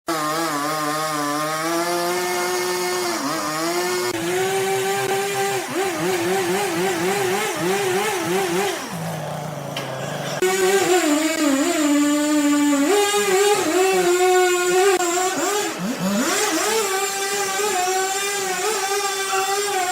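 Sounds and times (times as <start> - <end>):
power saw cutting wood: 0.1 - 19.9.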